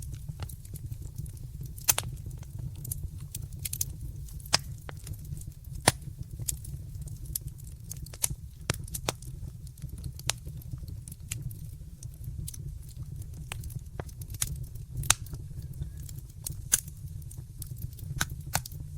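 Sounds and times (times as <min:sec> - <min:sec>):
fireplace fire crackling: 0:00.0 - 0:18.9.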